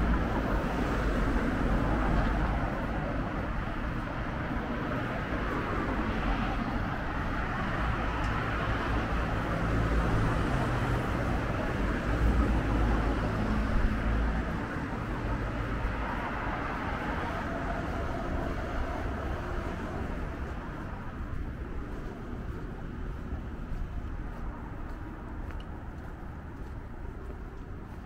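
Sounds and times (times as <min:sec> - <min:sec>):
passing car traffic: 0:00.0 - 0:28.0.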